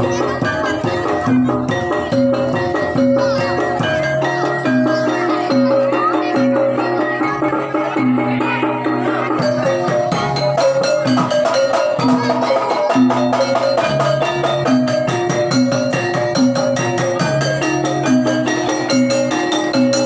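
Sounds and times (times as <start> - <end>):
bronze metallophones ringing: 0.0 - 20.0
drum and percussion beat: 0.0 - 20.0.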